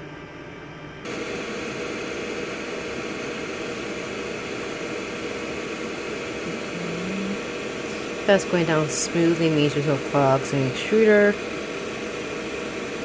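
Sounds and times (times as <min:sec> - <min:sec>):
printer whirring hiss: 0:01.1 - 0:13.0.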